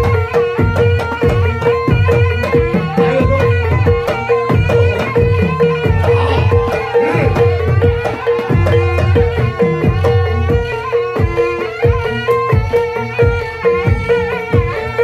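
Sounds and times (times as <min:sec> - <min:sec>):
hand drums beating: 0:00.0 - 0:15.0
higher melodic lines: 0:00.1 - 0:15.0.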